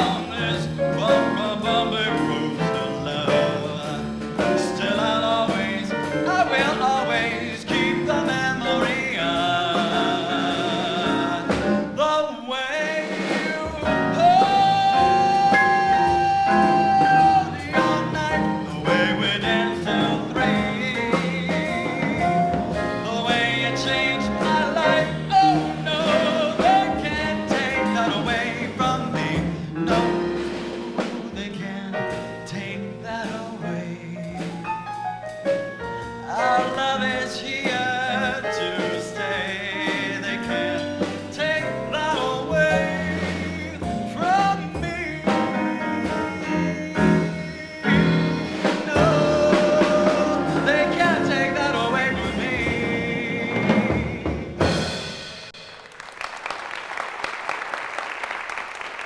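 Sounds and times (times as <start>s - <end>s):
man singing jazz: 0.0s - 55.2s
jazz band playing: 0.0s - 56.0s.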